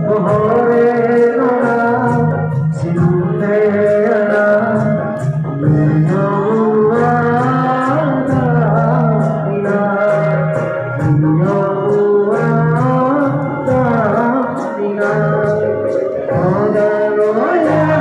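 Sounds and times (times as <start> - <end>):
electric guitar: 0.0 - 18.0
keyboard: 0.0 - 18.0
man singing into microphone: 0.0 - 18.0.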